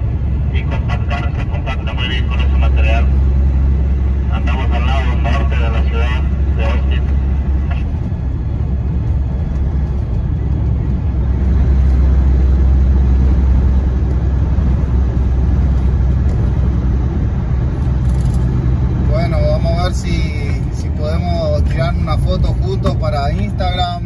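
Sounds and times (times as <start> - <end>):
truck engine drone: 0.0 - 24.0
tyre and road noise: 0.0 - 24.0.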